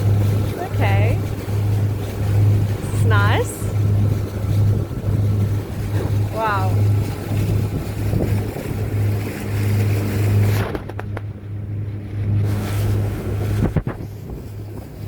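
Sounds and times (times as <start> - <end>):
motorboat engine drone: 0.0 - 15.0
rushing wind: 0.0 - 15.0.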